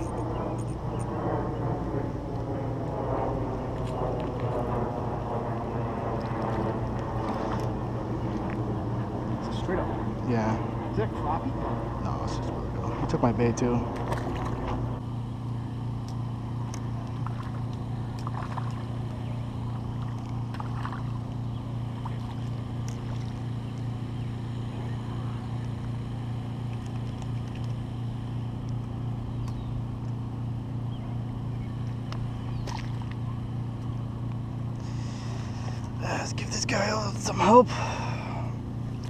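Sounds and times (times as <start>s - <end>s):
low motor hum: 0.0s - 39.0s.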